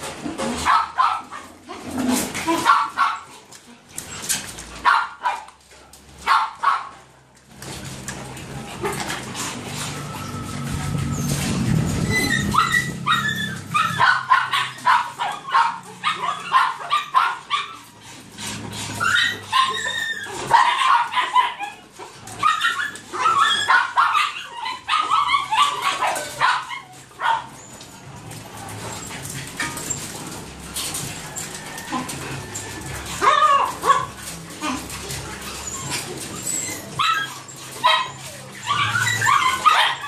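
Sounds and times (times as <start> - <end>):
small dogs yipping and barking: 0.0 - 40.0.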